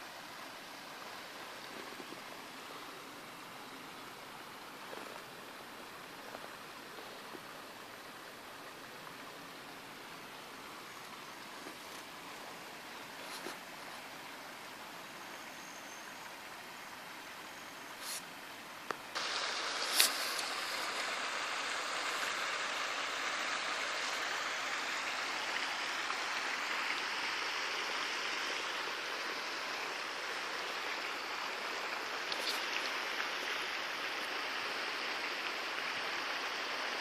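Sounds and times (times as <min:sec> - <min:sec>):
water rushing in rocky creek: 0:00.0 - 0:37.0.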